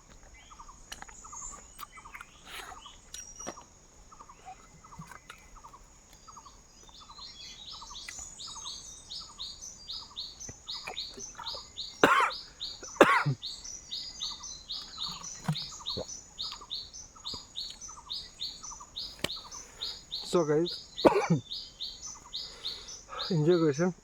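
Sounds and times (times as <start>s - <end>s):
birds chirping: 0.0s - 24.0s
loud bird calls: 0.0s - 24.0s.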